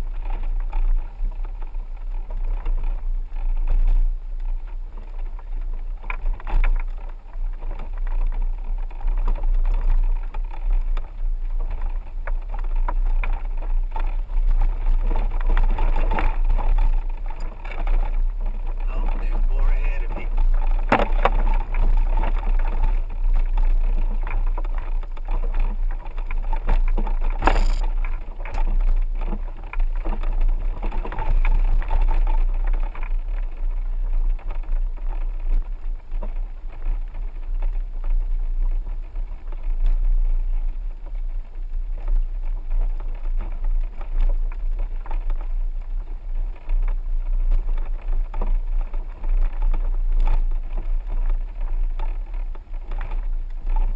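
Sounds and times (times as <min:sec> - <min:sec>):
vehicle low rumble: 0:00.0 - 0:53.9.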